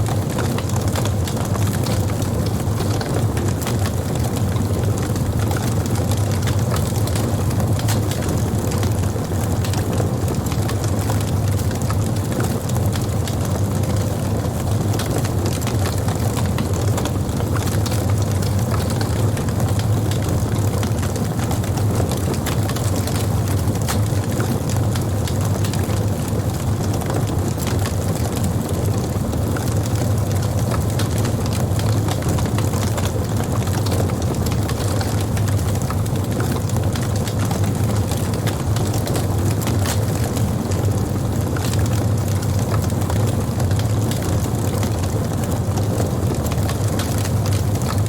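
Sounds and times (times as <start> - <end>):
campfire wood crackling and popping: 0.0 - 48.0
low rumble of flame: 0.0 - 48.0.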